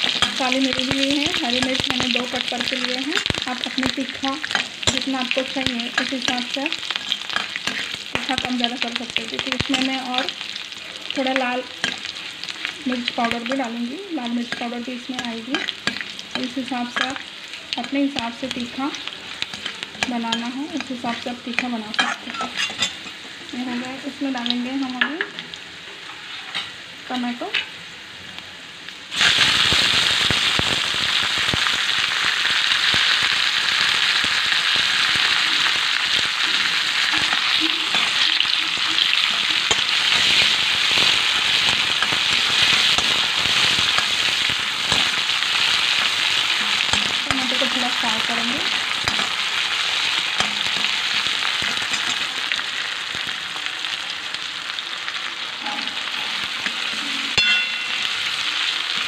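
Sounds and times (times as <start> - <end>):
tomatoes sizzling in hot oil: 0.0 - 59.0.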